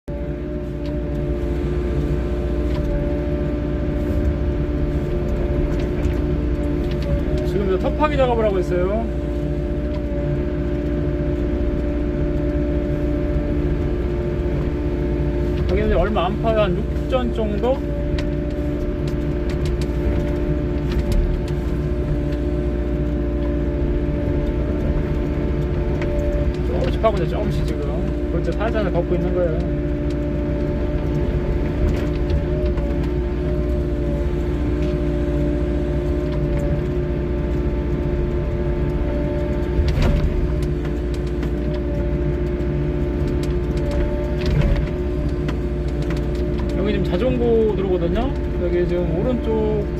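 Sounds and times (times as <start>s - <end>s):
diesel engine rumbling: 0.0s - 49.9s.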